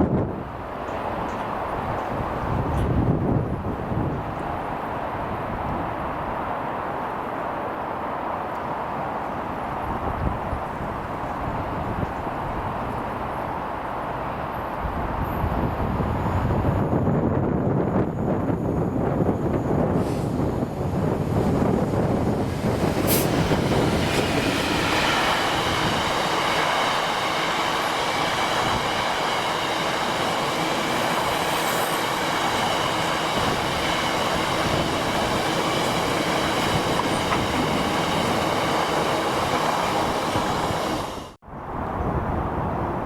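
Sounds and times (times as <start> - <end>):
train wheels rumbling on rail: 0.0 - 7.6, 8.2 - 43.0.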